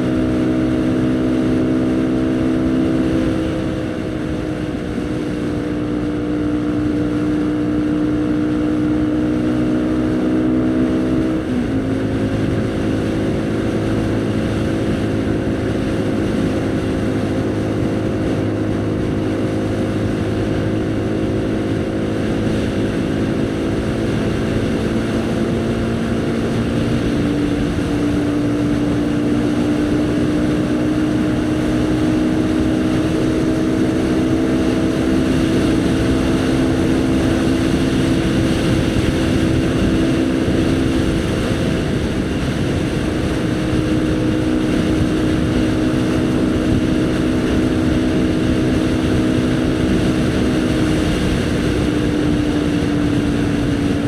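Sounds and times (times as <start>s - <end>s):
motorcycle engine running: 0.0s - 54.0s
wind rush over microphone: 0.0s - 54.0s.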